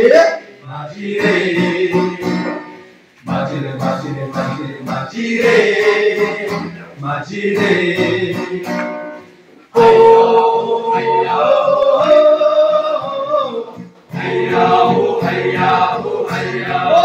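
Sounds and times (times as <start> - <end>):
men singing together: 0.0 - 8.9, 9.8 - 17.0.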